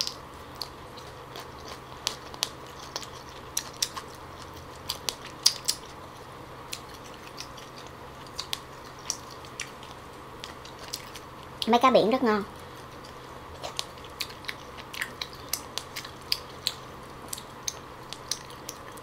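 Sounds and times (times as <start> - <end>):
close chewing crunches: 0.0 - 11.8, 12.6 - 19.0.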